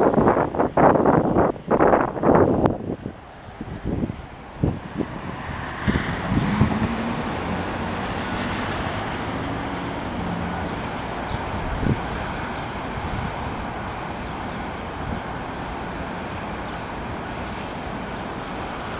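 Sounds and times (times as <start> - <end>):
electric train rumbling: 0.0 - 18.9
wind on microphone: 0.0 - 18.9.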